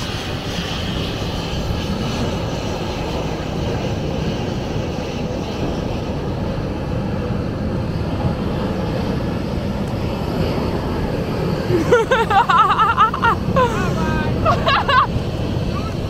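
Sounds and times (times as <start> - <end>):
jet engines running: 0.0 - 16.0
wind buffeting microphone: 0.0 - 16.0.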